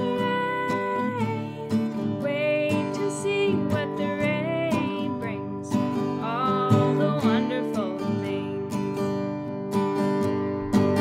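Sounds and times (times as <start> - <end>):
woman singing: 0.0 - 8.9
strummed acoustic guitar: 0.0 - 11.0.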